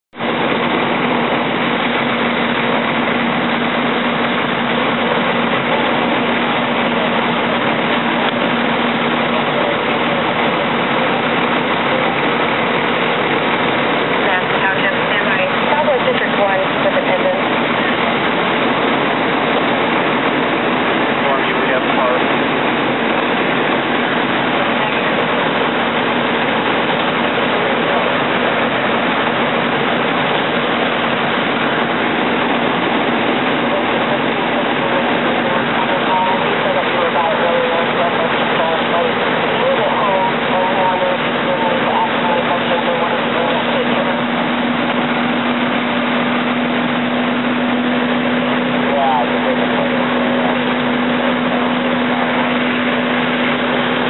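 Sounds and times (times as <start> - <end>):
large engine running: 0.1 - 54.0.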